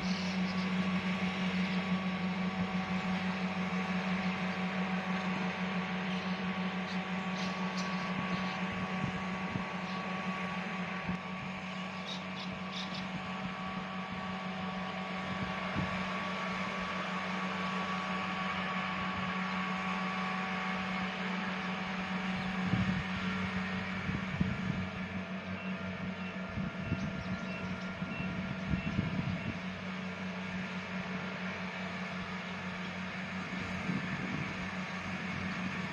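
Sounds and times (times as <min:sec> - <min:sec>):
harvesting machine engine drone: 0:00.0 - 0:35.9.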